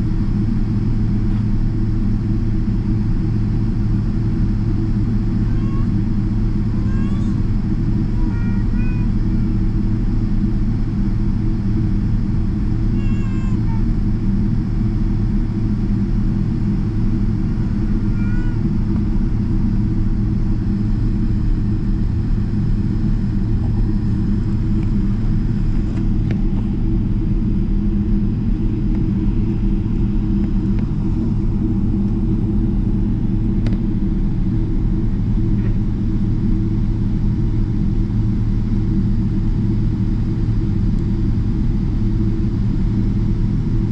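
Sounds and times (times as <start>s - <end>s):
airplane cabin rumble: 0.0s - 43.9s.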